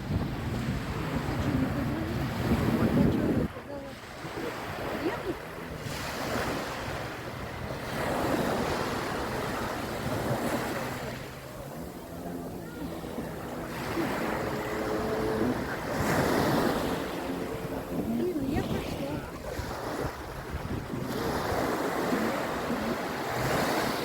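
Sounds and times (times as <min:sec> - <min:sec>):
sea waves washing onto shore: 0:00.0 - 0:24.0
wind buffeting microphone: 0:00.0 - 0:24.0.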